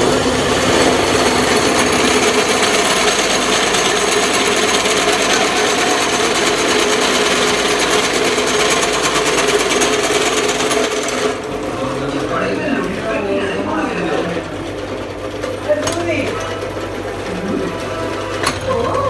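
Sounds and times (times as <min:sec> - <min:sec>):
drill press cutting steel: 0:00.0 - 0:19.0.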